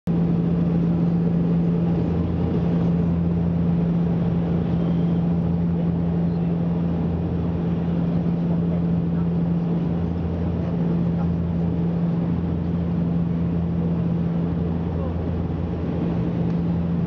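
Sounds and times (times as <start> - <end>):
turboprop engine drone: 0.0 - 17.0.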